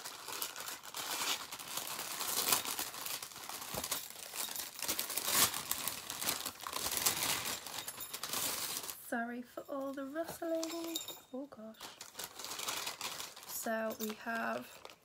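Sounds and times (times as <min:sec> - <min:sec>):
packaging rustling and crinkling: 0:00.0 - 0:09.0, 0:11.8 - 0:15.0.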